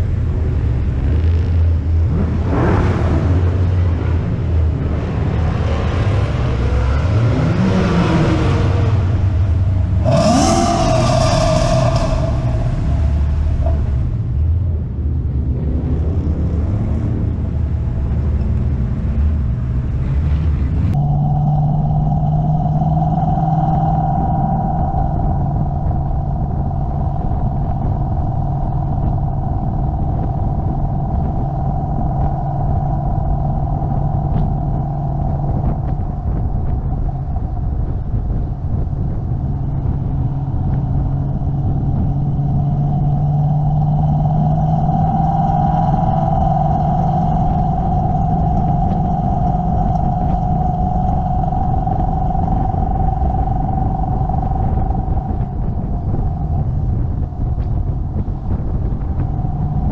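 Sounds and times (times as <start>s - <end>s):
car engine droning: 0.0s - 59.9s
road rumble: 0.0s - 59.9s.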